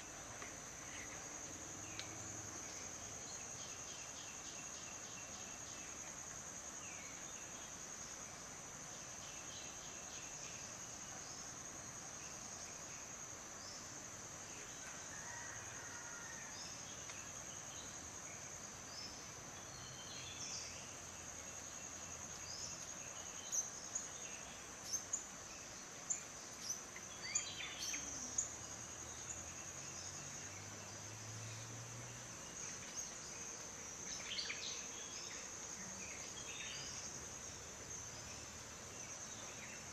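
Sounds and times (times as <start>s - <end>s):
crickets droning: 0.0s - 39.9s.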